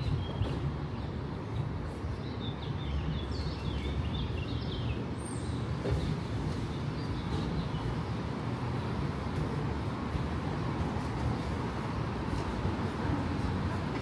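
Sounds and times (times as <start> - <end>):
low rumble of city street: 0.0 - 14.0.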